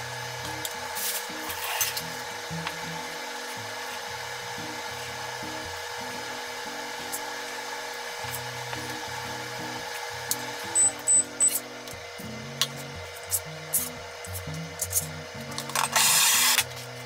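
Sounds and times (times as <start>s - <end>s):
light background music: 0.0s - 17.0s.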